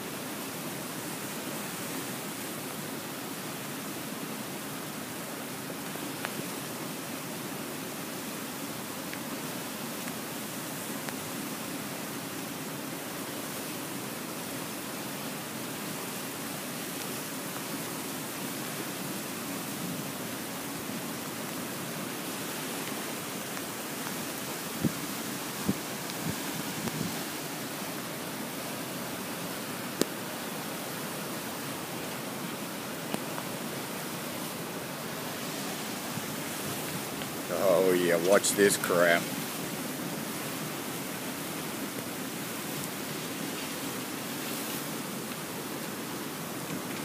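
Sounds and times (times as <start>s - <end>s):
water rushing down a channel: 0.0s - 47.0s.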